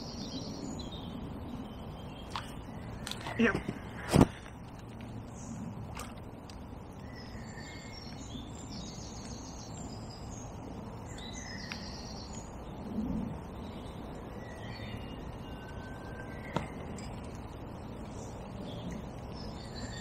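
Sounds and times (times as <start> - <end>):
outdoor background hiss: 0.0 - 20.0
small birds chirping and singing: 0.0 - 20.0.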